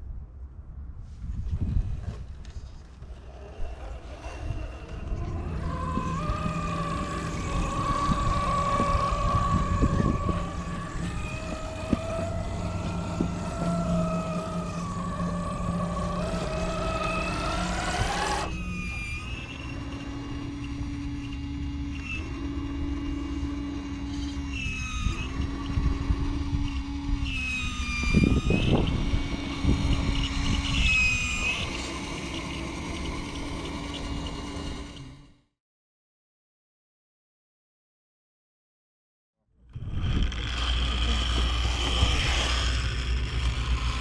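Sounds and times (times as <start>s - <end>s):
lower steady motor whine: 1.5s - 35.5s, 39.6s - 44.0s
rc truck motor whine: 1.8s - 35.5s, 39.6s - 44.0s.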